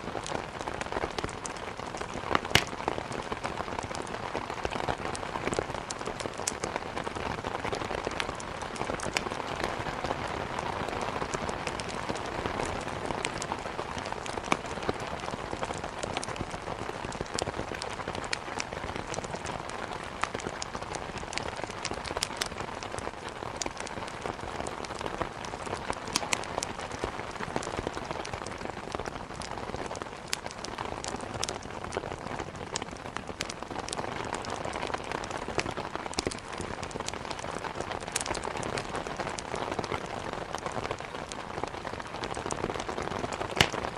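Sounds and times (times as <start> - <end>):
heavy rain: 0.0 - 43.9
wood crackling in a fireplace: 0.0 - 43.9.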